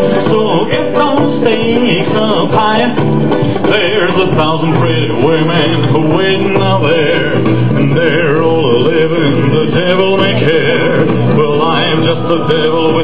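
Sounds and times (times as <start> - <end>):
backing music: 0.0 - 13.0
man singing with vibrato: 0.0 - 13.0.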